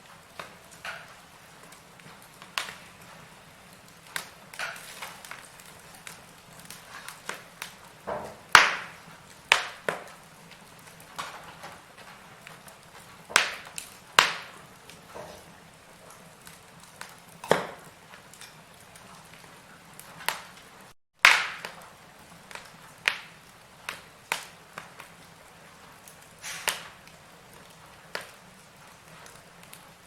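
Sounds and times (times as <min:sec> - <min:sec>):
faint steady hiss: 0:00.0 - 0:30.0
firewood crackling and popping: 0:00.0 - 0:30.0.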